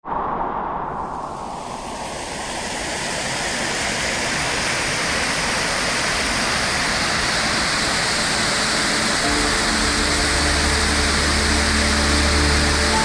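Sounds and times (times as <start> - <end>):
waterfall rushing: 1.1 - 13.0.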